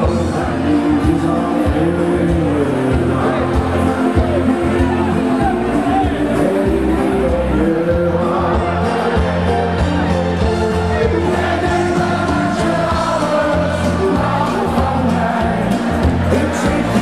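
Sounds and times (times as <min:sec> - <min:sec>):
band playing dance music: 0:00.0 - 0:17.0
heavy bass beat: 0:00.0 - 0:17.0
person singing: 0:00.0 - 0:17.0.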